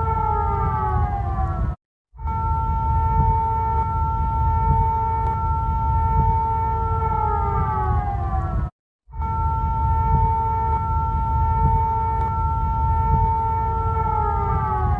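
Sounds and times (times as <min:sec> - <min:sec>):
low rumbling noise: 0:00.0 - 0:14.9.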